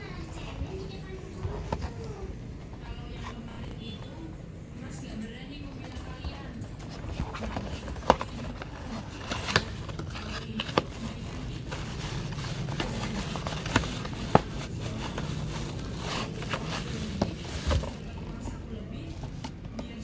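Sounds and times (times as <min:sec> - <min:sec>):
packaging scraping and rustling: 0:00.0 - 0:04.4, 0:05.1 - 0:19.7.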